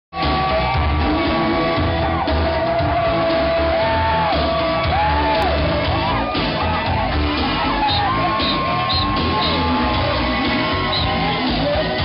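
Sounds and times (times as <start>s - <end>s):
party dance music with heavy bass: 0.1s - 12.0s
people shouting: 0.2s - 12.0s.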